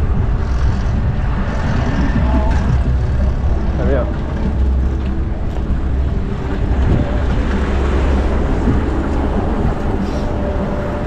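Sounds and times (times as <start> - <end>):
city street traffic: 0.0 - 11.0
wind rumble on microphone: 0.0 - 11.0.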